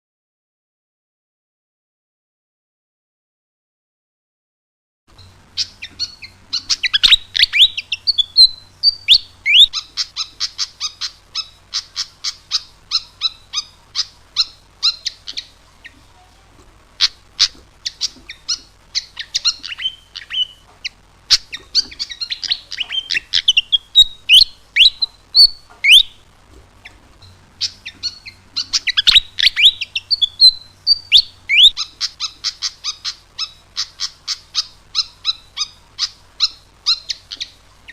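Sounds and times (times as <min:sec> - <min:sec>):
faint steady low hum: 0:05.1 - 0:37.9
flycatcher singing: 0:05.2 - 0:16.2, 0:16.9 - 0:37.9.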